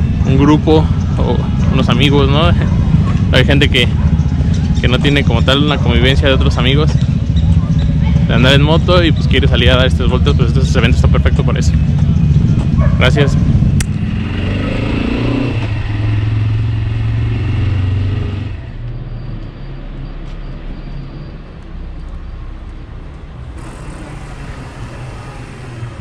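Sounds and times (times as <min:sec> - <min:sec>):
motorcycle engine: 0:00.0 - 0:19.0, 0:23.4 - 0:26.0.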